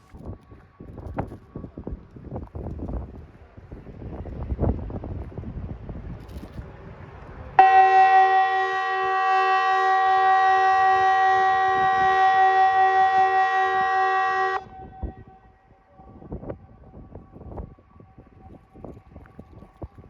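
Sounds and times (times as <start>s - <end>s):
wind noise: 0.0s - 20.0s.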